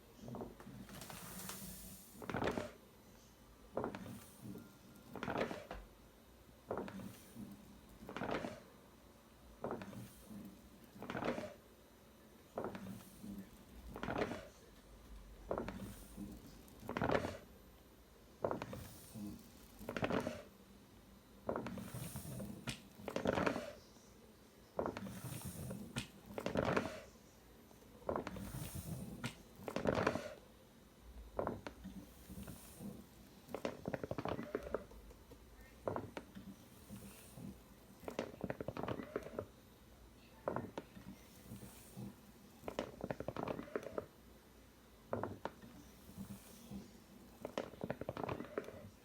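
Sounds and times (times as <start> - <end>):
ventilator motor mechanism cycling: 0.0 - 49.0.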